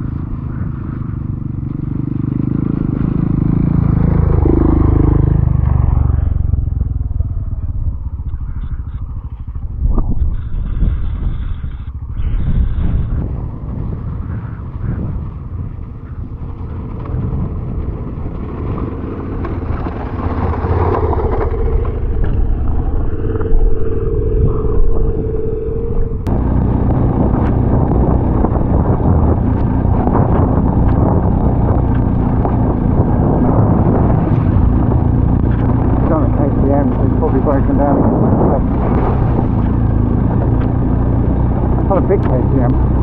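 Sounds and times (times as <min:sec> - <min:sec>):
motorcycle engine running: 0:00.0 - 0:43.0
road and wind noise: 0:00.0 - 0:43.0
steady whine: 0:02.6 - 0:14.8, 0:18.4 - 0:43.0.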